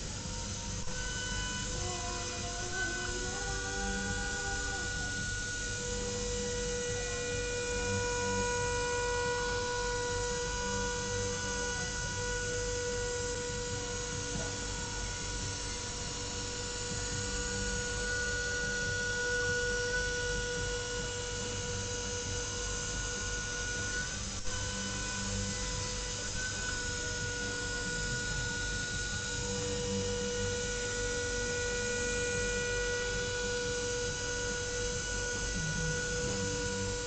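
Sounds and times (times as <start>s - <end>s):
milling machine whine: 0.0s - 37.0s.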